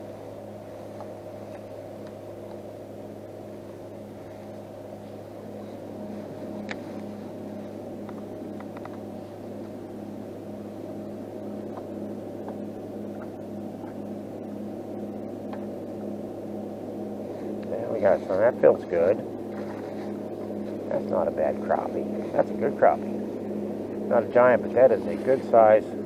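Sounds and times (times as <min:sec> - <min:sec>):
electric trolling motor humming: 0:00.0 - 0:26.0.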